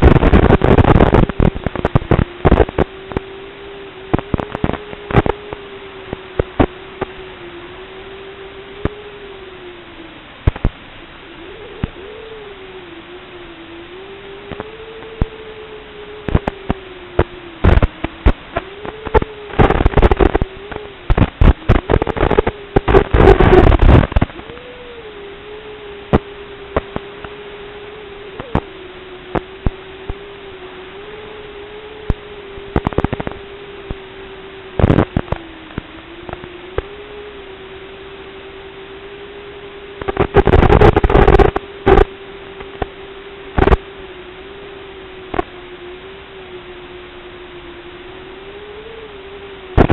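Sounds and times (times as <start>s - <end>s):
loud crackling bursts: 0.0s - 9.6s, 10.3s - 10.8s, 11.5s - 37.8s, 38.9s - 45.6s, 48.6s - 49.9s
steady hiss: 0.0s - 49.9s
wavering tone: 0.0s - 49.9s.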